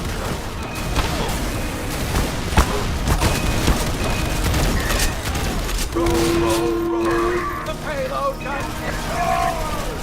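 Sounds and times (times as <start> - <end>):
sharp cracks and bangs: 0.0 - 10.0.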